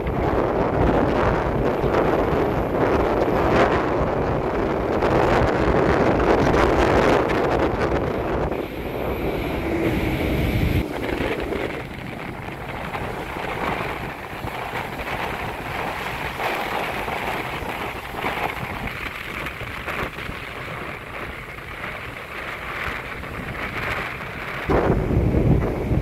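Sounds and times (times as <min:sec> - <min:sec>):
surf breaking on pebbly shore: 0:00.0 - 0:26.0
wind rumbling on microphone: 0:00.0 - 0:26.0.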